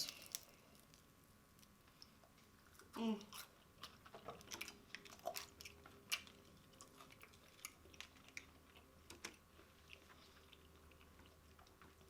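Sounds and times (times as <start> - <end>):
chewing with wet mouth smacks: 1.6 - 12.0.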